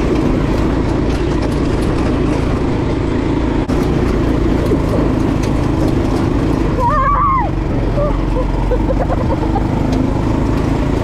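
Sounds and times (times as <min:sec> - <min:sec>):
dirt track noise: 0:00.0 - 0:11.0
go-kart engine running: 0:00.0 - 0:11.0.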